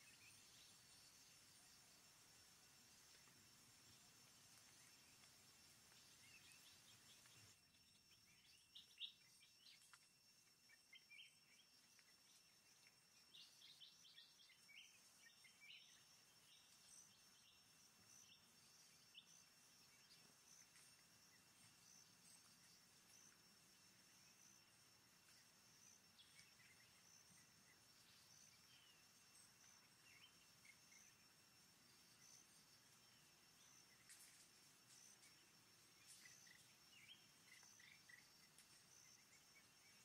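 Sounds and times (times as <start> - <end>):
forest ambience: 0.0 - 40.0
soft bird chirps: 0.0 - 40.0.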